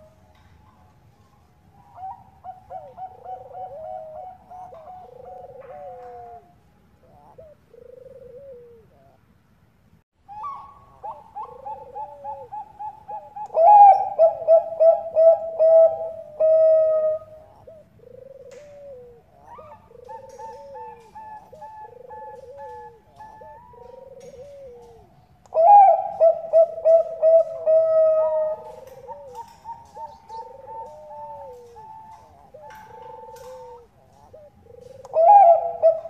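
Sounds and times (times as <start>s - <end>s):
dove cooing in staccato trills: 1.8s - 9.2s, 10.3s - 36.0s.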